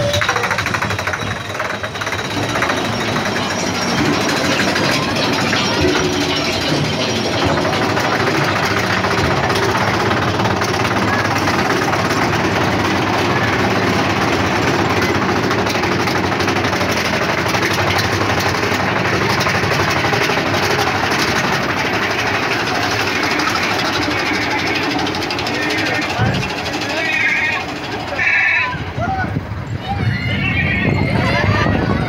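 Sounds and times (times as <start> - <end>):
roller coaster rattling rumble: 0.0 - 32.0.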